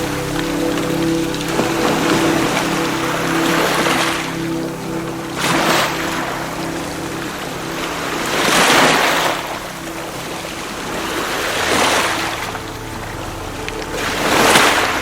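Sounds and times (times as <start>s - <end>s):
sea waves washing against rocks: 0.0s - 15.0s
soft background music: 0.0s - 15.0s.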